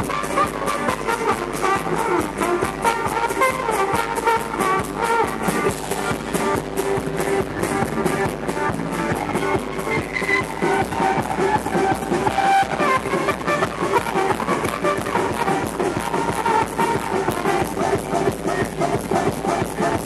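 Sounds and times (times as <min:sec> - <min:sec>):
acoustic guitar: 0:00.0 - 0:20.0
trumpet: 0:00.0 - 0:20.0
upright double bass: 0:00.0 - 0:20.0.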